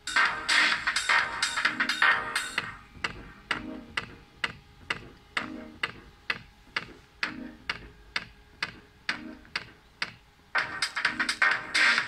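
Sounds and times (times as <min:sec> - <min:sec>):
soft low beat: 0:00.1 - 0:12.0.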